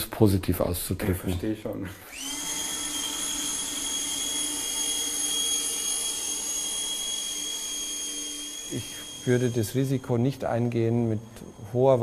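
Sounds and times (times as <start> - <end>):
machine high-pitched whine: 2.1 - 12.0.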